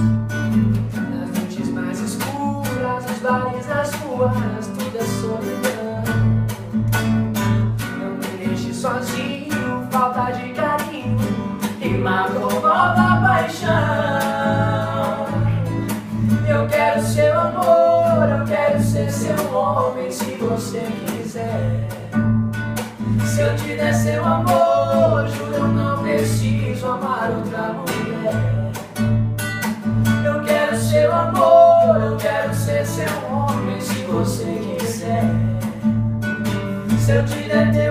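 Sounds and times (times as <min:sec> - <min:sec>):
strummed acoustic guitar: 0:00.0 - 0:37.9
man singing: 0:01.0 - 0:06.8, 0:07.8 - 0:22.3, 0:23.1 - 0:29.0, 0:30.2 - 0:35.9, 0:36.8 - 0:37.9.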